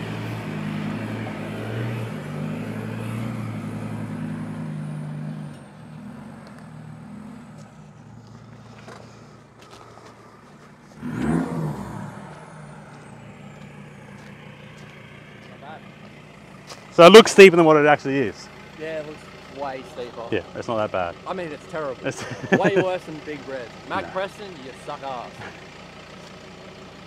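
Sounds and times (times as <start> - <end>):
diesel truck engine crawling: 0.0 - 27.0
engine revving: 0.0 - 27.0.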